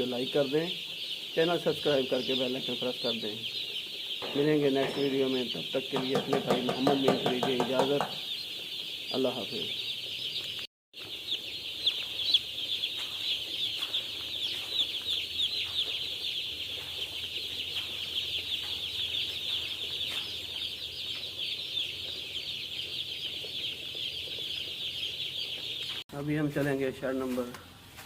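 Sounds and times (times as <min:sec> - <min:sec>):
chicks peeping: 0:00.0 - 0:27.8.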